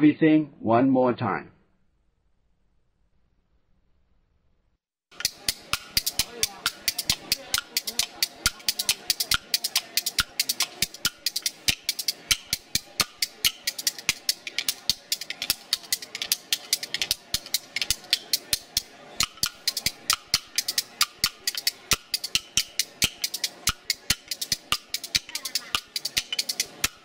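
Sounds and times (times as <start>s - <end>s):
music with fast percussive clicks: 5.1s - 27.0s.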